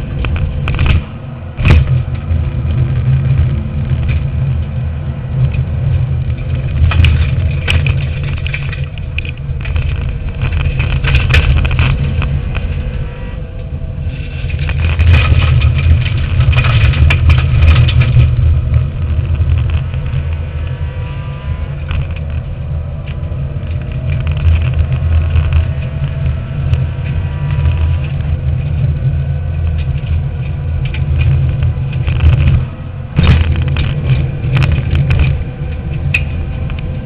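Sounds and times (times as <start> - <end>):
car knocks and rattles: 0.0 - 13.2, 14.2 - 37.0
car engine running hard: 0.0 - 37.0.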